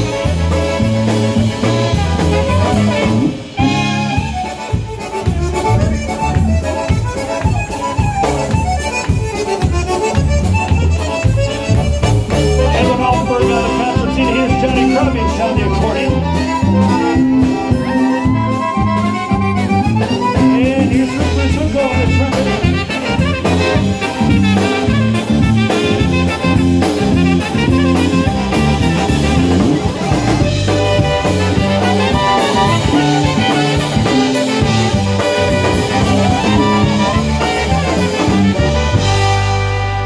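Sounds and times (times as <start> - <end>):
polka band playing: 0.0 - 40.0.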